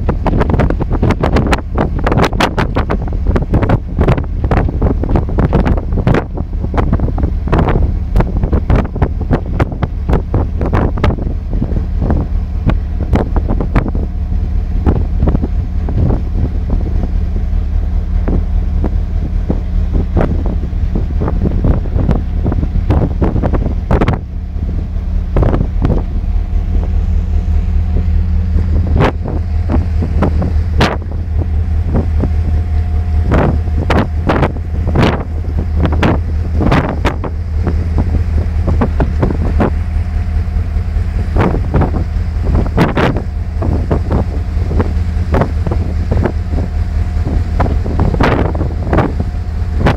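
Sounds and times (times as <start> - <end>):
low engine rumble: 0.0 - 49.9
wind on microphone: 0.0 - 49.9.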